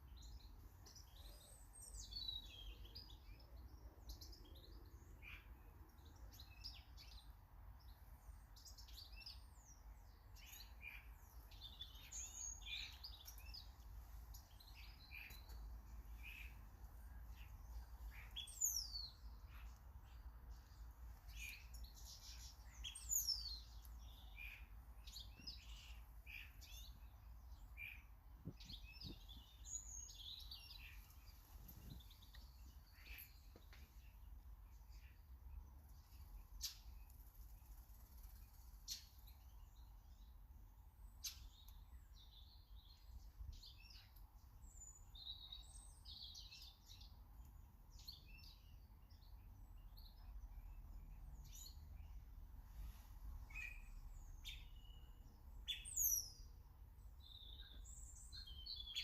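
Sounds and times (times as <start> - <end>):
birds chirping: 0.0 - 40.4, 41.0 - 59.0.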